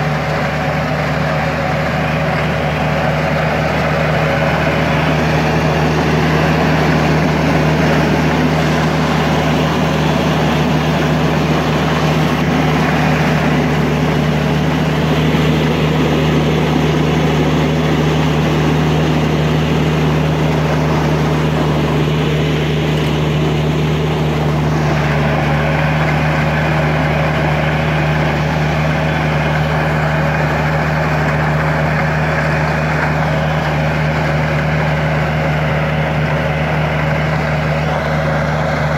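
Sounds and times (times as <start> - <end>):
engine droning: 0.0 - 38.9.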